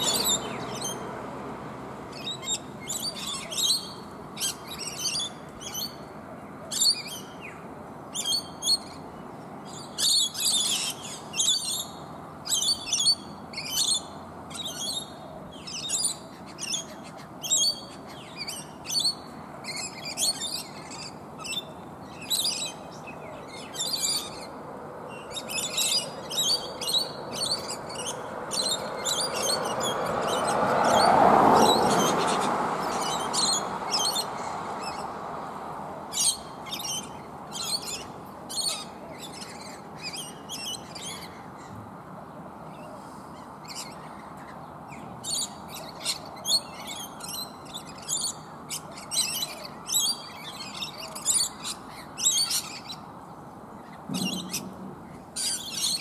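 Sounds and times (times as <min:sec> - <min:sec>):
lorikeets screeching: 0:00.0 - 0:01.4, 0:02.0 - 0:35.2, 0:36.1 - 0:42.0, 0:42.6 - 0:56.0.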